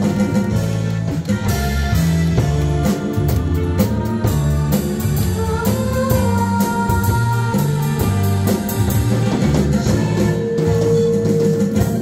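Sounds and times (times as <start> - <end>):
drum kit: 0.0 - 12.0
electric bass: 0.0 - 12.0.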